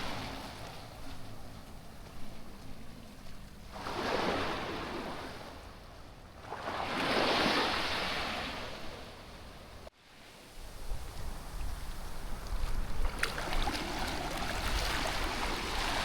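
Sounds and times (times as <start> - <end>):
small waves breaking on beach: 0.0 - 5.8, 6.4 - 16.0.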